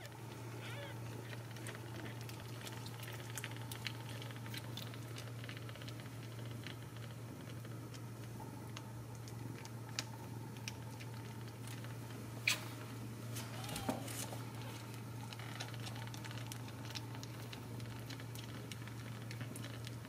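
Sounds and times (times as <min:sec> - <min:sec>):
steady low hum: 0:00.0 - 0:20.0
kittens suckling wet clicks: 0:00.3 - 0:12.7, 0:14.3 - 0:20.0.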